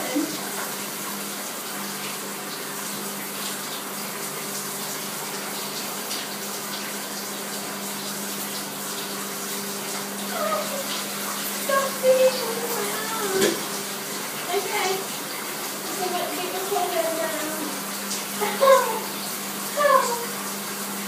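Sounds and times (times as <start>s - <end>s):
shower water running into bathtub: 0.0s - 21.0s.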